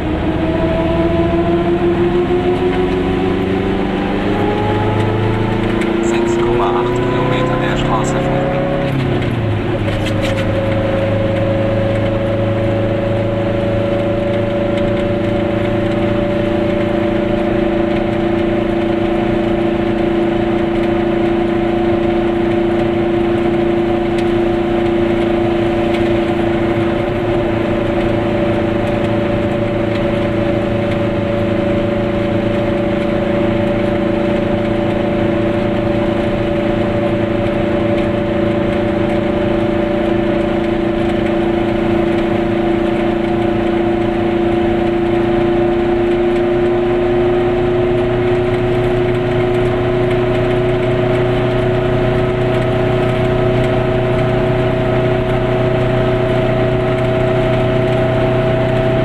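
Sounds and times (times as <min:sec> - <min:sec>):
car engine droning: 0:00.0 - 0:59.0
road noise: 0:00.0 - 0:59.0.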